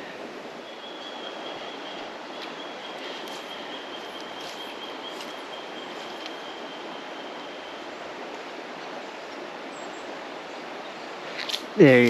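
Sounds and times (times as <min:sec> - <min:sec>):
flowing creek water: 0:00.0 - 0:12.0.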